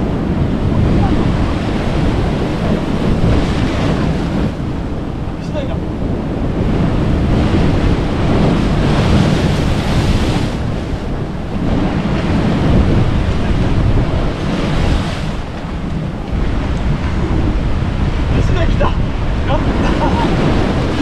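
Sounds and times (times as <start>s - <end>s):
waves breaking against rocks: 0.0s - 21.0s
wind buffeting microphone: 0.0s - 21.0s.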